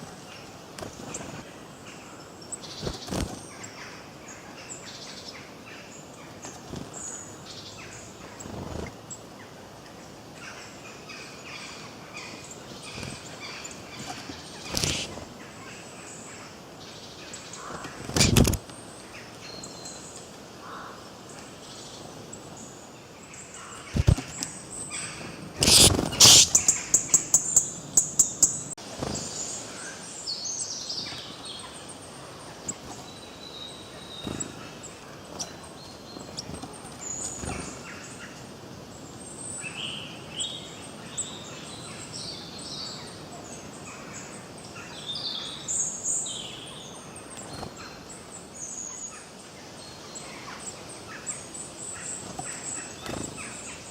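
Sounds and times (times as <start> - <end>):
faint outdoor hiss: 0.0 - 53.9
songbirds chirping and trilling: 0.0 - 53.9.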